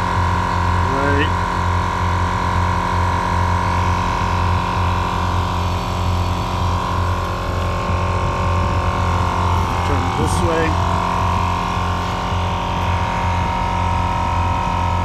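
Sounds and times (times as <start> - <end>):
tire inflator droning: 0.0 - 15.0.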